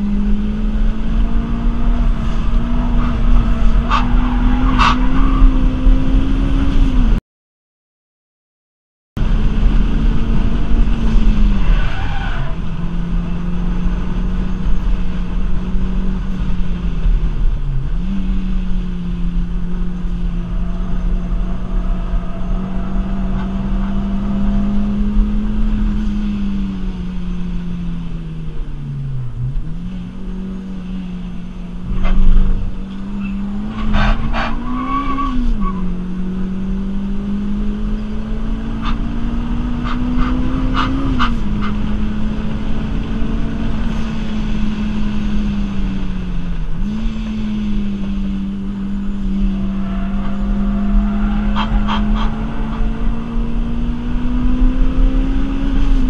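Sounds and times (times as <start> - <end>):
car engine at high revs: 0.0 - 7.2, 9.2 - 56.0.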